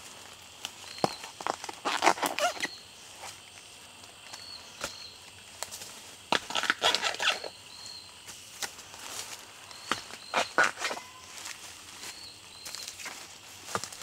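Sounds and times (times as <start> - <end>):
dry bamboo leaves rustling: 0.0 - 14.0.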